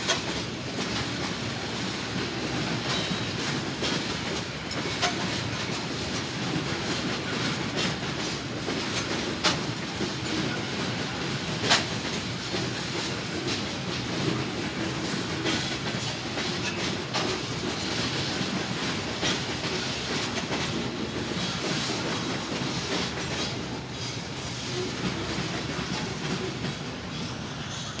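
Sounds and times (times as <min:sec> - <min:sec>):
train cars rumbling past: 0:00.0 - 0:28.0
wheels clacking over rail joints: 0:00.0 - 0:28.0.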